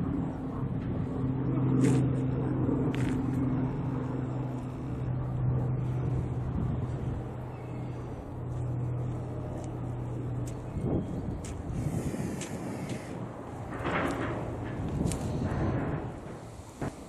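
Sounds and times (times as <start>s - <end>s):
engine idling hum: 0.0s - 17.0s.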